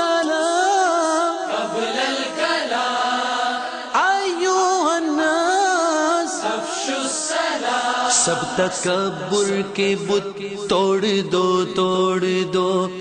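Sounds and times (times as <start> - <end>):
person chanting devotional song: 0.0 - 13.0.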